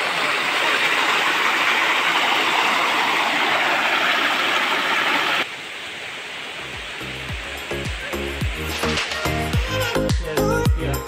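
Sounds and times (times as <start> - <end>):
water rushing over rocks: 0.0 - 10.4.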